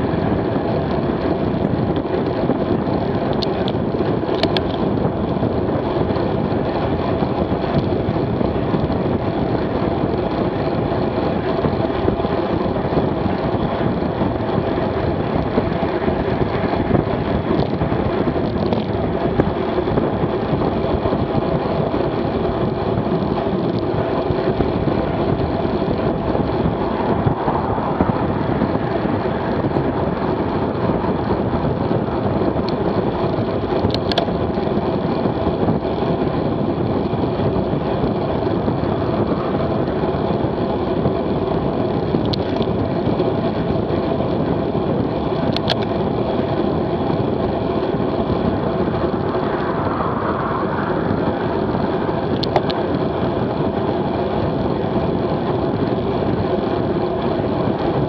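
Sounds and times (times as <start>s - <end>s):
bicycle tyre noise: 0.0s - 58.0s
wind on microphone: 0.0s - 58.0s.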